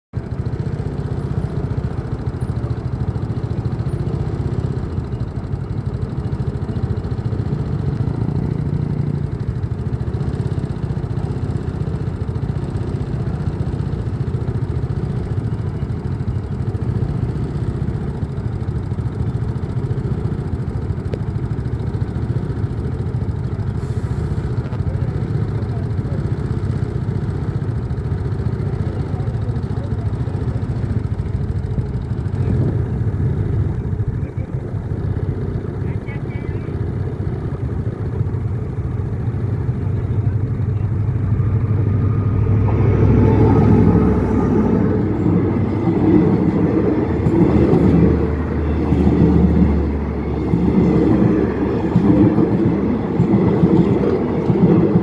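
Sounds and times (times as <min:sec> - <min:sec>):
locomotive engine rumble: 0:00.1 - 0:55.0.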